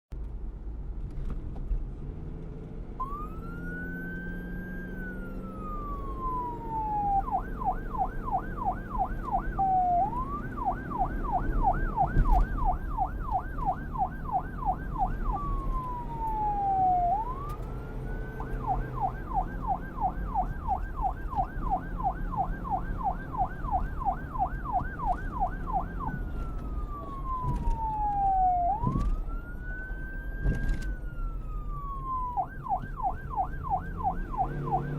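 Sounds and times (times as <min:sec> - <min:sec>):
low vehicle rumble: 0:00.2 - 0:34.9
police siren wail and yelp: 0:03.0 - 0:34.9.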